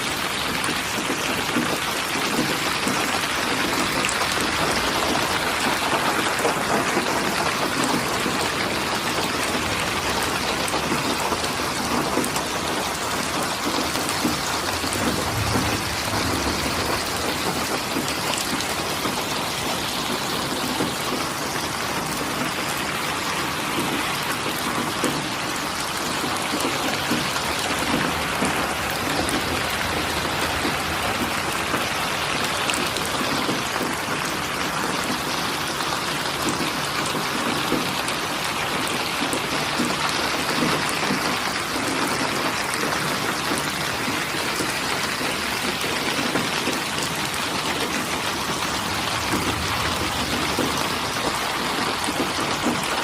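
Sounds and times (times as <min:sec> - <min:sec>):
steady rain pattering: 0:00.0 - 0:53.0.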